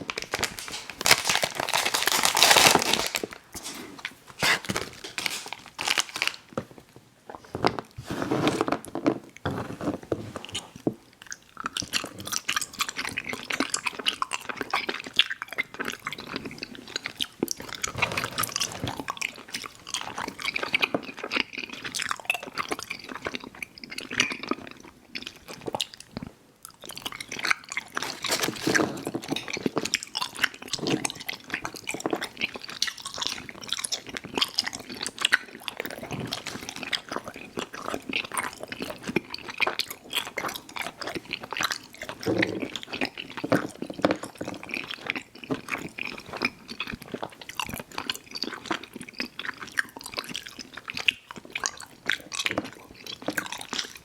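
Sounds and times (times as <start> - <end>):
chewing and mouth smacking: 0.0 - 6.6, 10.4 - 54.0.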